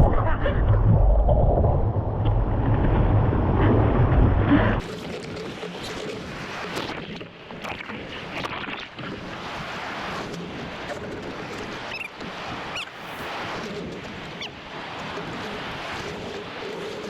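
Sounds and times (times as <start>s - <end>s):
ocean surf splashing: 1.7s - 17.0s.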